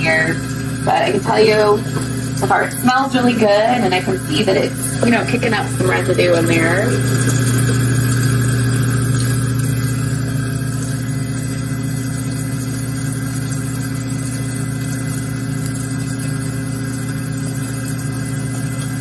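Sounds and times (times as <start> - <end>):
garbage disposal motor humming: 0.0 - 19.0
tap water running into sink: 0.0 - 19.0.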